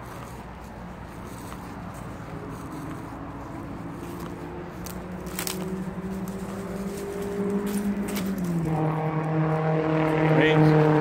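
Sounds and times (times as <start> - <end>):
engine hum approaching: 0.0 - 11.0.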